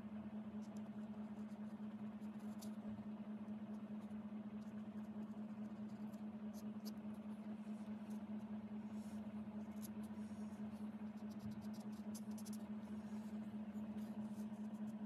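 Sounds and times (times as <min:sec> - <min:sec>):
steady low hum: 0:00.0 - 0:15.0
brush scratching on card: 0:00.6 - 0:02.9, 0:03.7 - 0:15.0.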